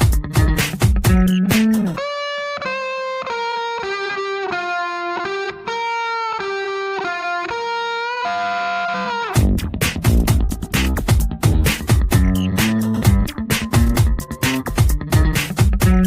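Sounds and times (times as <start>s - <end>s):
electric guitar melody: 0.0s - 16.0s.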